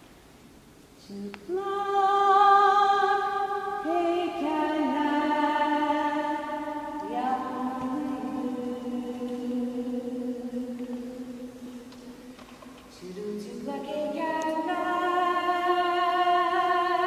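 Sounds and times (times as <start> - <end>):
woman singing unaccompanied: 1.0 - 17.0.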